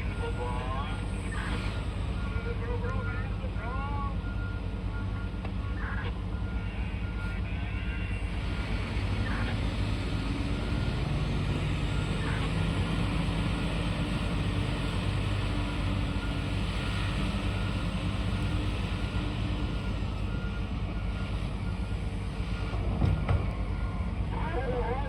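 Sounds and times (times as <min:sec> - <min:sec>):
diesel machinery droning: 0:00.0 - 0:25.0.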